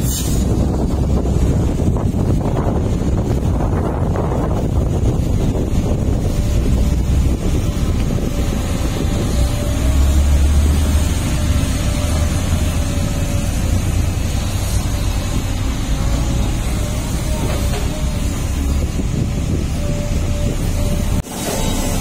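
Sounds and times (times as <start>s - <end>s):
diesel engine rumbling: 0.0s - 22.0s
wind buffeting microphone: 0.0s - 22.0s.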